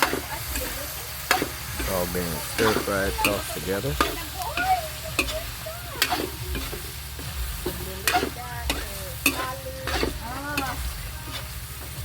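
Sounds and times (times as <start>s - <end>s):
food sizzling in a wok: 0.0s - 12.0s
utensil clinking and scraping wok: 0.0s - 12.0s.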